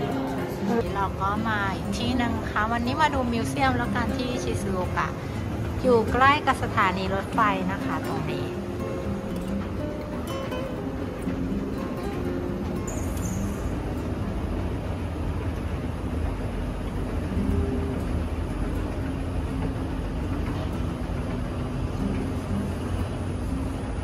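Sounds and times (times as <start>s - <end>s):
escalator running: 0.0s - 24.0s.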